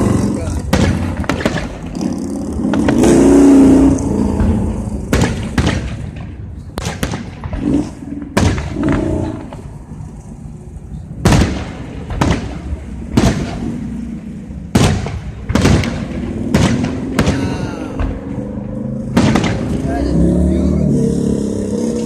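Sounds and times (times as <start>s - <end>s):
fireworks booming: 0.0s - 9.7s, 11.2s - 20.2s
low rumbling: 0.0s - 22.0s.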